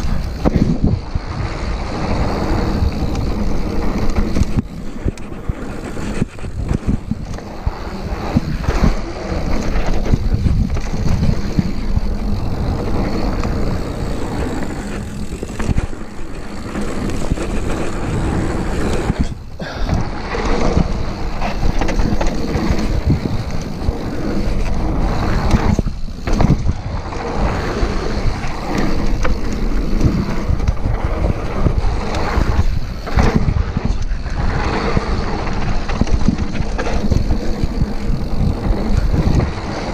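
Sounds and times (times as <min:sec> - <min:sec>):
bike knocks and rattles: 0:00.0 - 0:39.9
tyres rumbling on dirt: 0:00.0 - 0:39.9
wind rushing over microphone: 0:00.0 - 0:39.9.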